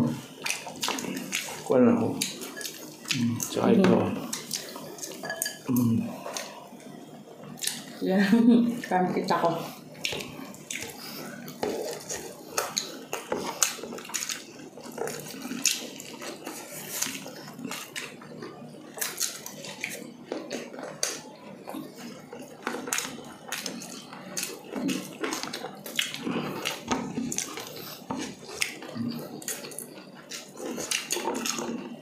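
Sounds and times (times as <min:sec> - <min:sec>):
people chewing with mouth smacks: 0:00.0 - 0:08.0, 0:09.5 - 0:32.0.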